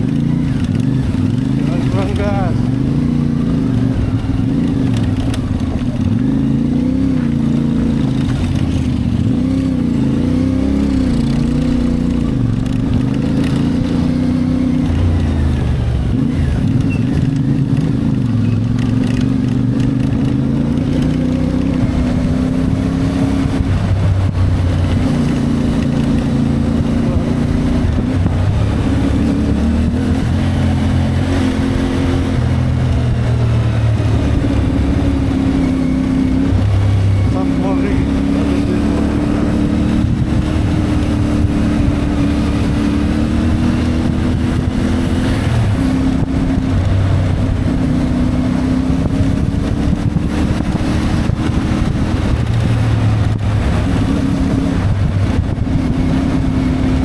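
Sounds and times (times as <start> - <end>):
motorcycle engine while riding: 0.0 - 57.0.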